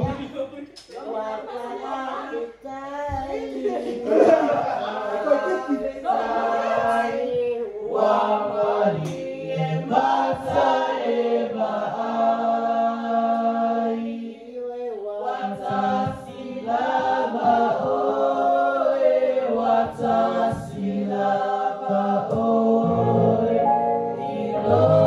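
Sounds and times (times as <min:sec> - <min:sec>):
group singing: 0:00.0 - 0:25.0.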